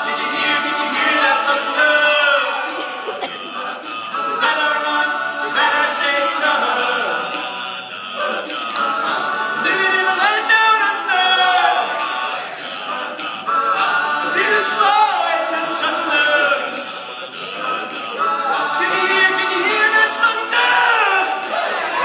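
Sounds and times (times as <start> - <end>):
male a cappella group singing: 0.0 - 22.0.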